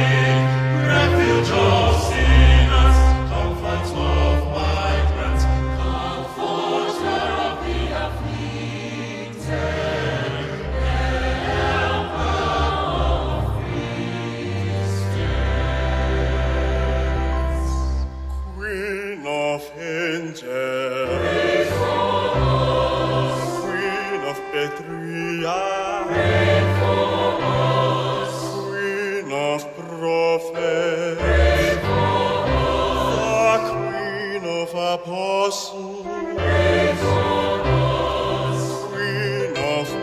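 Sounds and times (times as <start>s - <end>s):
choir singing with vibrato: 0.0s - 40.0s.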